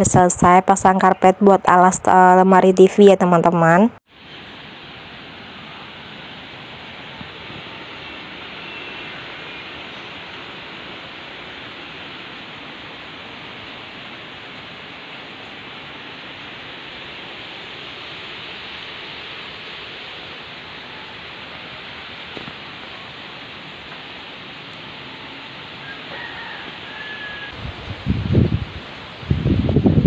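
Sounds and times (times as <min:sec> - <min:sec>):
strong storm wind blowing: 0:00.0 - 0:02.4, 0:04.2 - 0:24.2, 0:26.1 - 0:30.0.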